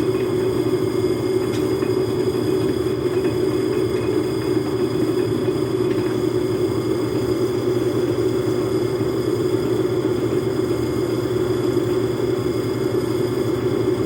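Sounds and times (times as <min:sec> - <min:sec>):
metal lathe humming: 0:00.0 - 0:14.0.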